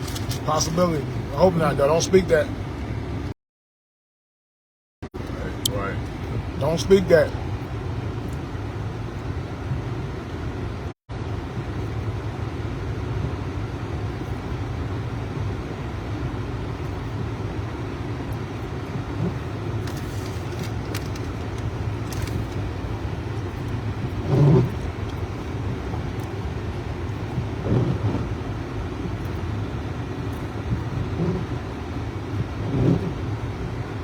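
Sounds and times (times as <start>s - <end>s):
car cabin road and engine noise: 0.0s - 3.4s, 5.0s - 34.0s.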